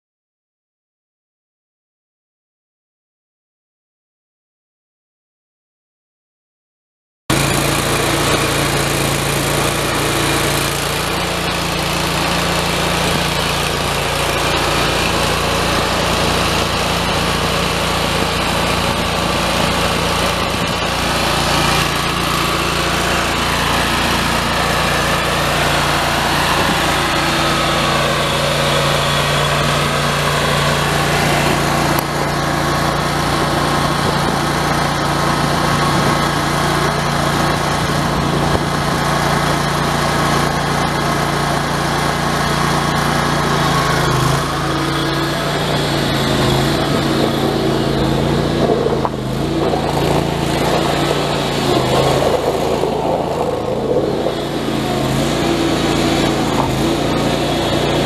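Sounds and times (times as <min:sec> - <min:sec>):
mower engine running: 0:07.3 - 0:58.0.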